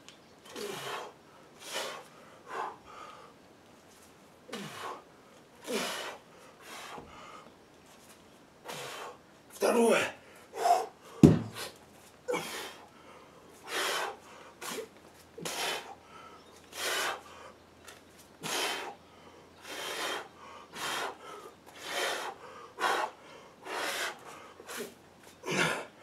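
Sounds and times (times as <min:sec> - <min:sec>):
man breathing hard: 0:00.5 - 0:03.4, 0:04.5 - 0:07.5, 0:08.6 - 0:09.2, 0:10.2 - 0:17.6, 0:18.4 - 0:26.0.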